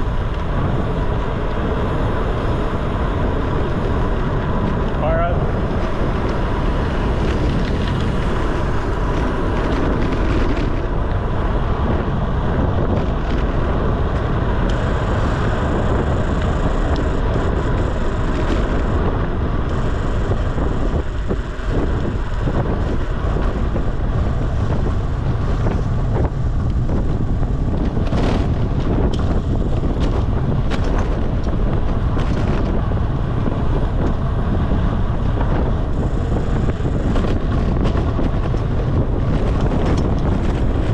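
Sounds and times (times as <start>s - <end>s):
knocks and clicks from road: 0.0s - 40.9s
wind noise on microphone: 0.0s - 40.9s.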